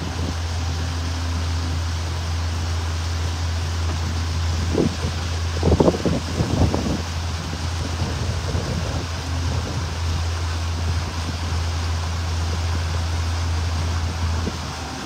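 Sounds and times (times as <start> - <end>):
motorboat engine droning: 0.0 - 15.0
water along hull: 0.0 - 15.0
wind on microphone: 0.0 - 15.0.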